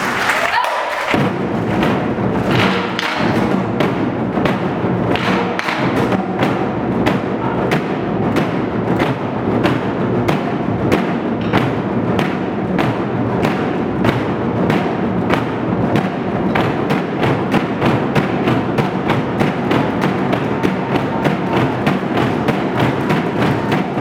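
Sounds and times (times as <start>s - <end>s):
barrel drums ensemble: 0.0s - 24.0s.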